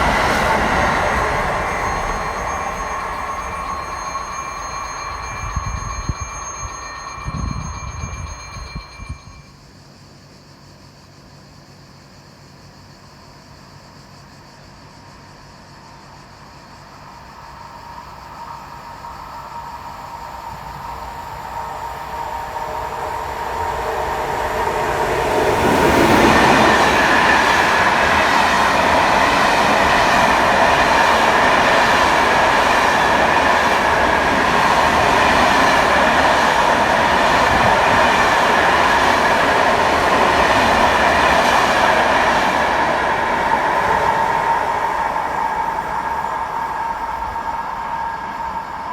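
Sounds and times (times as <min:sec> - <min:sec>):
train passing through station: 0:00.0 - 0:48.9.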